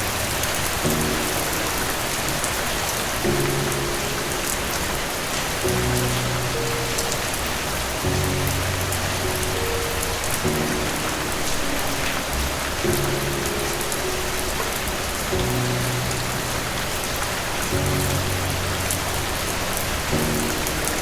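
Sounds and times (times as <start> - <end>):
heavy rain pattering: 0.0 - 21.0
soft low music: 0.0 - 21.0.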